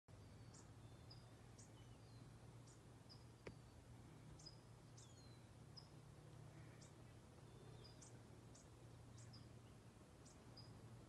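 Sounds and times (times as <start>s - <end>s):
faint high bird chirps: 0.1s - 6.0s, 6.6s - 10.9s
low steady hum: 0.1s - 11.0s.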